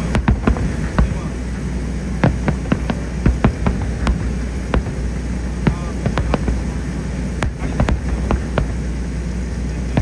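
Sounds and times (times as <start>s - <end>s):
firework shells bursting: 0.0s - 10.0s
steady low rumble: 0.0s - 10.0s.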